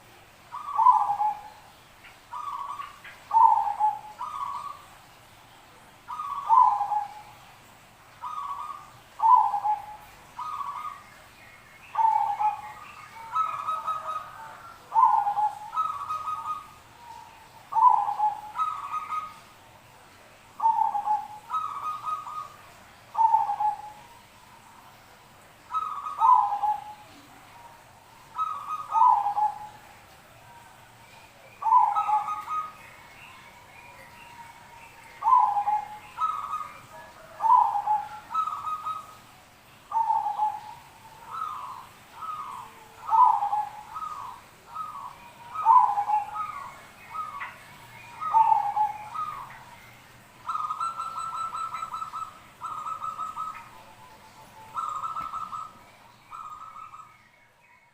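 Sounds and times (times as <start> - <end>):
doves cooing: 0.0 - 5.0, 6.1 - 7.4, 8.2 - 11.0, 11.9 - 19.5, 20.6 - 25.0, 25.7 - 39.3, 39.9 - 49.8, 50.4 - 57.1.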